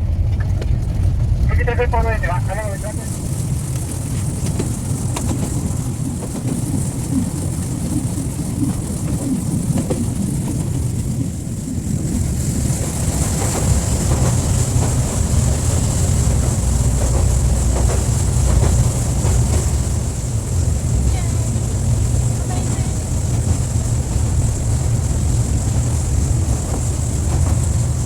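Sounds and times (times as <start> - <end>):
rail cart wheels rumbling: 0.0 - 28.0
wind noise: 0.0 - 28.0.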